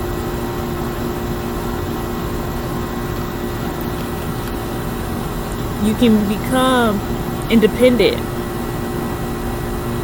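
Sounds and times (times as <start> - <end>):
mechanical hum with hiss: 0.0 - 10.0.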